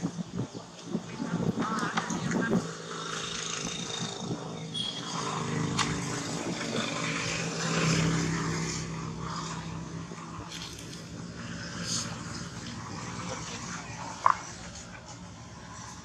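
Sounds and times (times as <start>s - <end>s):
engine drone: 1.6s - 16.0s.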